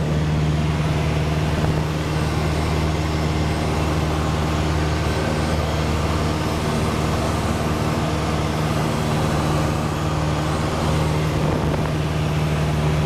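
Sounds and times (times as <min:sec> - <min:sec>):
airflow rushing over airframe: 0:00.0 - 0:13.0
airplane engine and propeller drone: 0:00.0 - 0:13.0.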